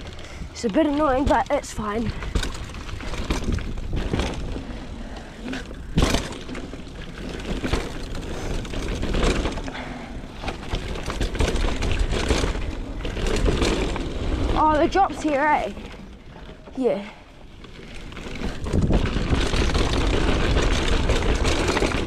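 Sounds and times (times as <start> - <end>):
bike rattling over bumps: 0.0 - 22.0
bike tyre noise on dirt: 0.0 - 22.0.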